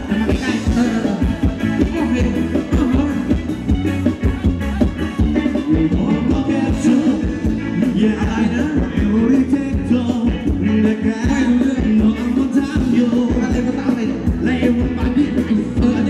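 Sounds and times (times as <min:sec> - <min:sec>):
amplified live dance band: 0:00.0 - 0:16.0
person singing: 0:00.0 - 0:16.0
steady drum beat: 0:00.0 - 0:16.0.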